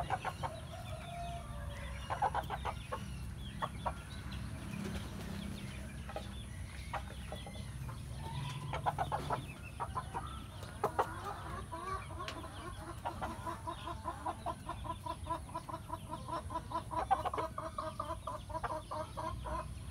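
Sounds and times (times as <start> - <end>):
chickens clucking: 0.0 - 19.9.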